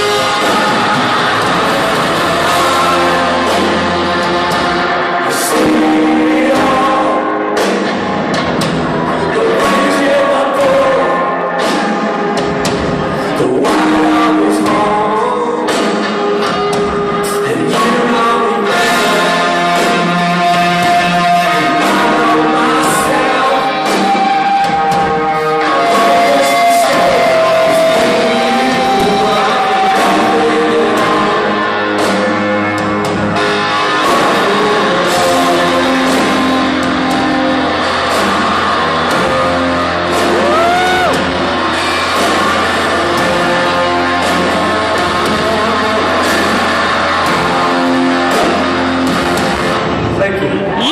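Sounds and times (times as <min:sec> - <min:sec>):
person singing: 0:00.0 - 0:08.1, 0:09.0 - 0:32.8, 0:33.4 - 0:48.6
drums: 0:00.0 - 0:50.9
electric guitars: 0:00.0 - 0:50.9.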